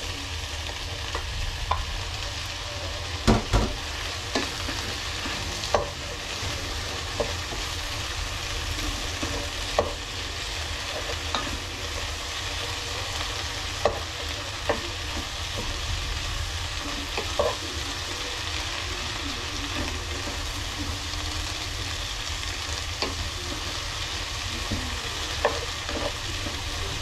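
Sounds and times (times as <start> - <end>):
vegetables sizzling in a pan: 0.0 - 27.0.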